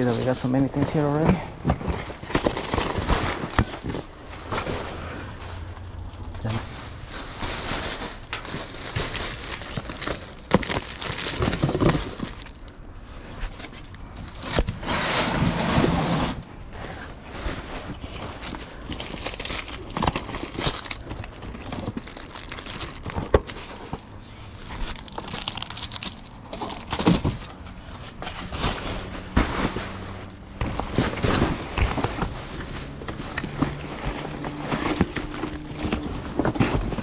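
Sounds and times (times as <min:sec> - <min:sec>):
plastic packaging crinkling: 0:00.0 - 0:04.6, 0:05.6 - 0:14.8, 0:17.9 - 0:37.0.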